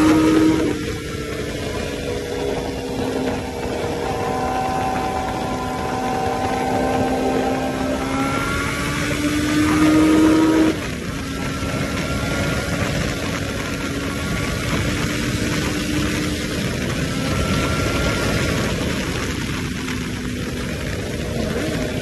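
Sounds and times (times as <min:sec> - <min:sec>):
motorcycle engine cruising: 0:00.0 - 0:22.0
wind rush: 0:00.0 - 0:22.0.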